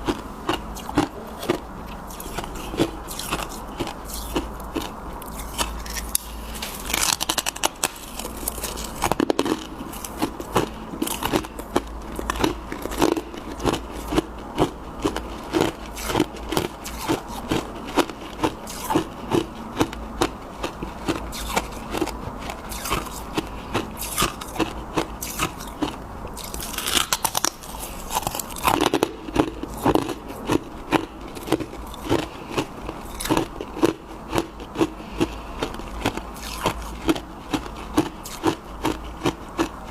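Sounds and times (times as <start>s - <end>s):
rhythmic chewing crunches: 0.0s - 39.9s
crunching bites of ice: 0.1s - 20.3s, 23.8s - 35.4s, 36.0s - 39.4s.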